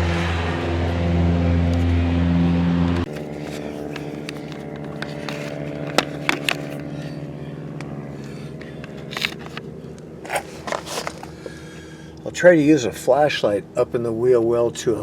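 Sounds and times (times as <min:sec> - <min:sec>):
loud engine drone: 0:00.0 - 0:15.0.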